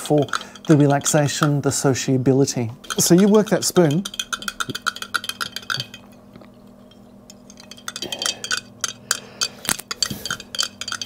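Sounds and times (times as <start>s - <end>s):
spoon clinking against a cup: 0.0s - 1.8s, 2.8s - 11.0s.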